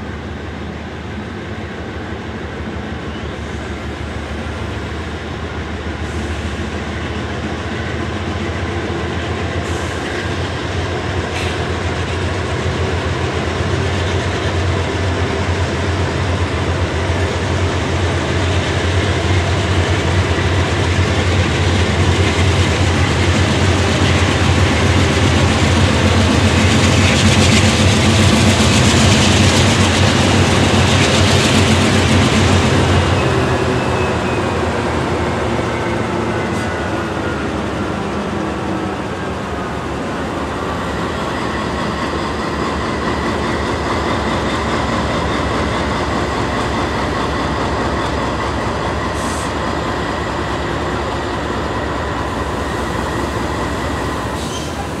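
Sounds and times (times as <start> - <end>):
train passing rumble: 0.0 - 55.0.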